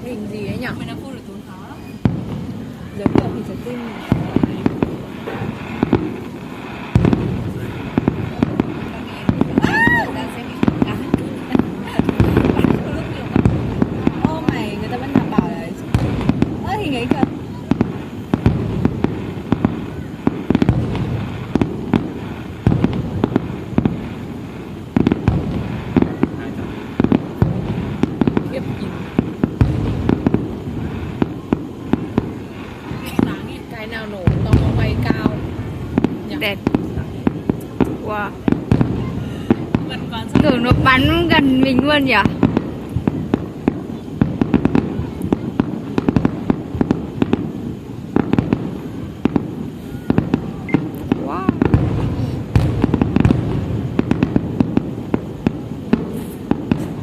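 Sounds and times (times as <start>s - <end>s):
fireworks bangs and crackles: 0.0s - 57.0s
fireworks display rumble: 0.0s - 57.0s.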